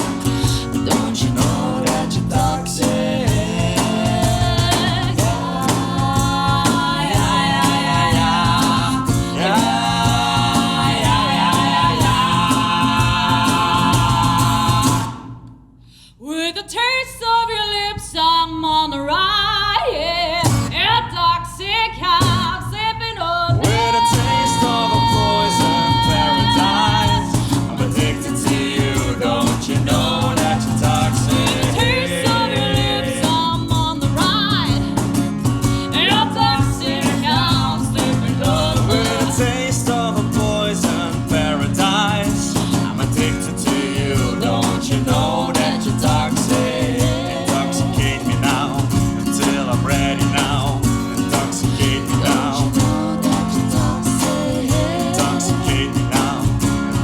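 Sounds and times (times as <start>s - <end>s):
live pop band playing: 0.0s - 15.2s, 23.6s - 57.0s
wordless sung vocals: 0.0s - 15.5s, 16.2s - 57.0s.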